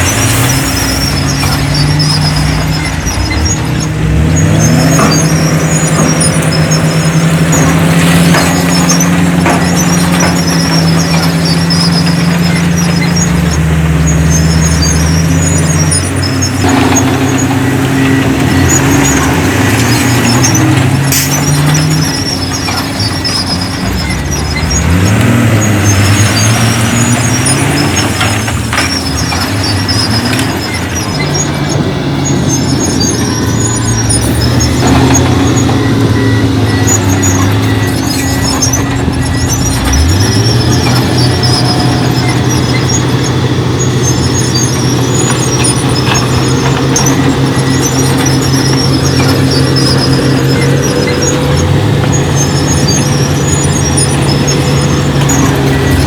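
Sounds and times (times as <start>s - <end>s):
heavy diesel engines running: 0.0s - 56.0s
high squeal: 0.0s - 56.0s.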